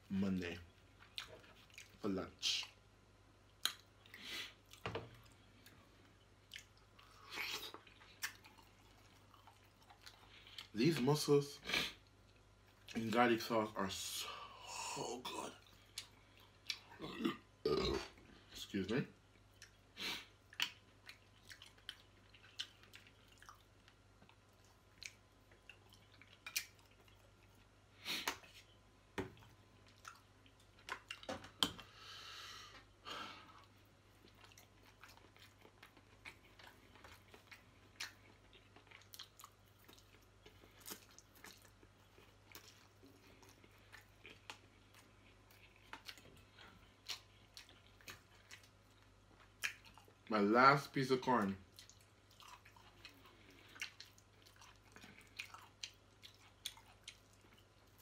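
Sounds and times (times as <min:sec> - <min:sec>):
man chewing food: 0:00.7 - 0:10.8, 0:11.7 - 0:13.0, 0:14.7 - 0:18.6, 0:19.2 - 0:50.3, 0:51.6 - 0:58.0.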